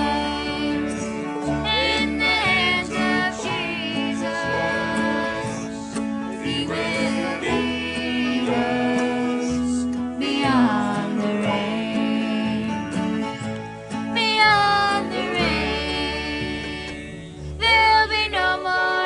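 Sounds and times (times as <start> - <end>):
person singing: 0.0 - 13.4, 14.2 - 19.0
country band playing: 0.0 - 18.9.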